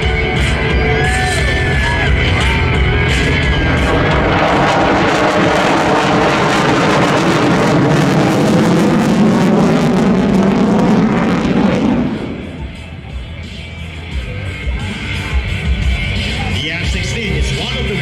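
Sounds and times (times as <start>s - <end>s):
jet fighter engine roar: 0.0s - 18.0s.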